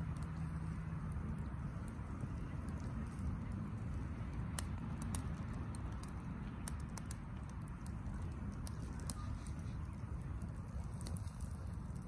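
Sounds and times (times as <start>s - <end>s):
steady low rumble: 0.0s - 12.0s
wood fire crackling and popping: 0.0s - 12.0s.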